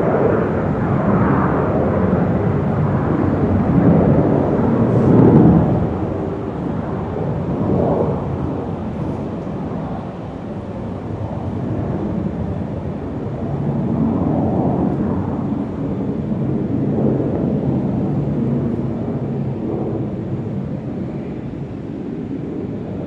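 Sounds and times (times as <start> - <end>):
aircraft noise rumble: 0.0 - 23.0.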